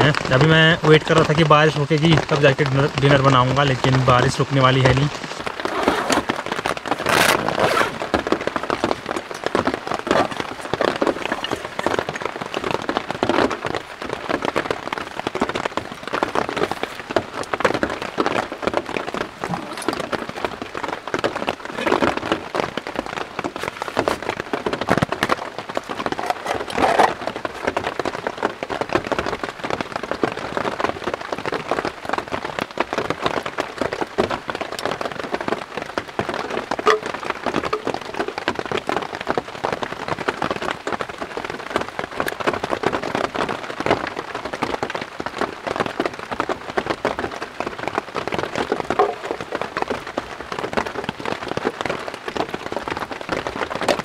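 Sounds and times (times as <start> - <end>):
rain pattering on tent fabric: 0.0 - 54.0.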